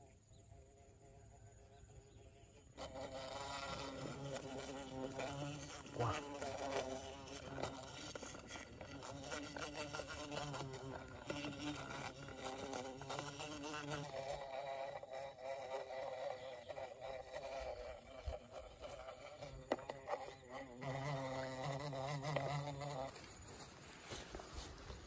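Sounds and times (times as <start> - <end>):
insect wings buzzing: 0.0 - 25.0.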